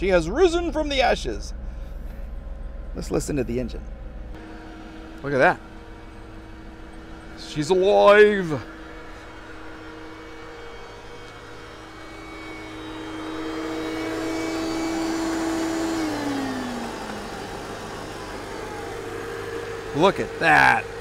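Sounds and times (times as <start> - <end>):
car engine idling: 0.0 - 21.0
steady whine sliding down: 0.3 - 21.0.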